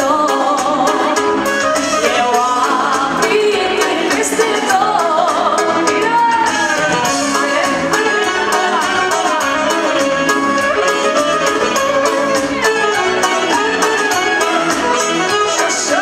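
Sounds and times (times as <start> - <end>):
live band playing dance music: 0.0 - 16.0
person singing: 0.0 - 16.0
saxophone: 0.0 - 16.0.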